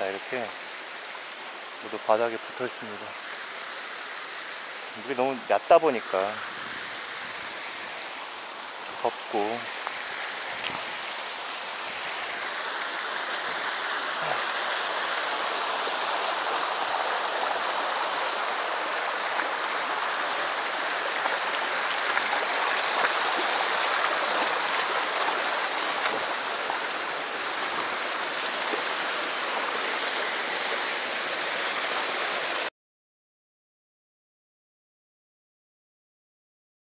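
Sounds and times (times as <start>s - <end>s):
stream rushing over rocks: 0.0s - 32.7s.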